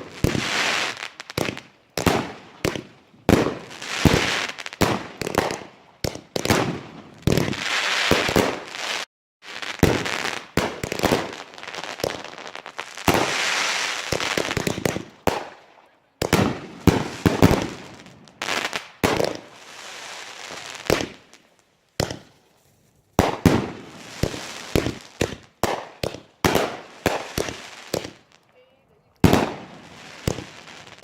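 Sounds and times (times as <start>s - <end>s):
fireworks bangs: 0.0s - 21.4s, 22.0s - 22.4s, 23.2s - 31.0s
fireworks crackling: 0.0s - 31.0s.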